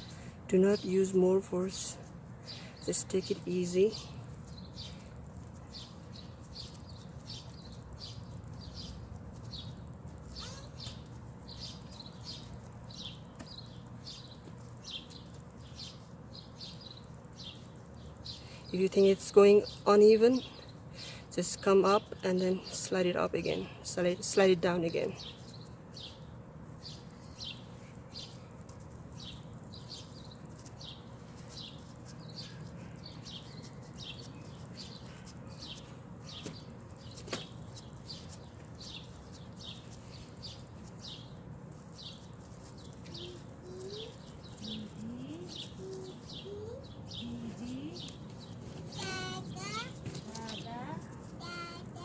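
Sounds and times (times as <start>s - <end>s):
bird chirping: 0.0s - 21.2s, 24.9s - 52.0s
steady low hum: 0.0s - 52.0s.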